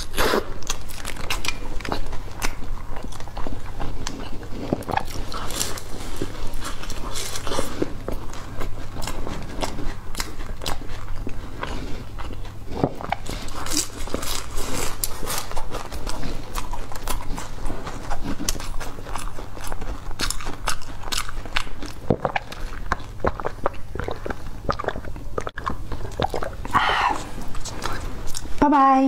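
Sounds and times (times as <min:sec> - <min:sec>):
chewing flaky pastry: 0:00.0 - 0:29.0.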